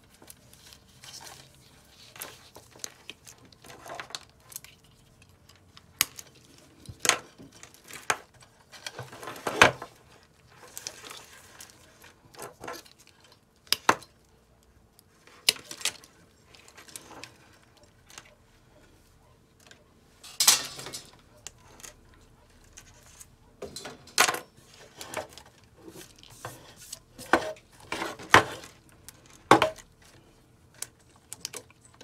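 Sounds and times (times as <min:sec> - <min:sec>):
wires rustling and clinking: 0:00.0 - 0:32.0.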